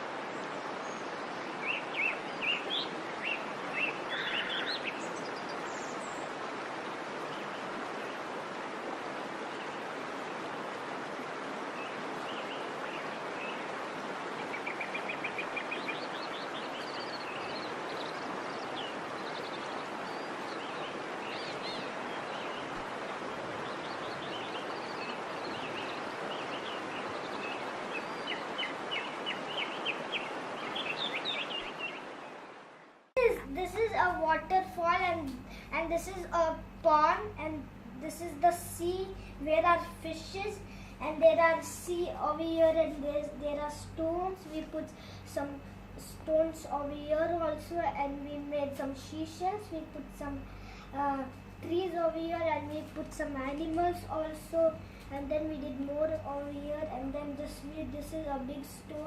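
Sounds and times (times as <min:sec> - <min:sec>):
background hiss: 0:00.0 - 0:59.0
small birds chirping: 0:00.3 - 0:08.3, 0:11.6 - 0:59.0.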